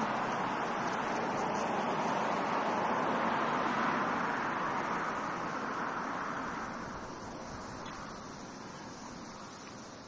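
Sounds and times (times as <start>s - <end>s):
cars passing: 0.0s - 10.0s.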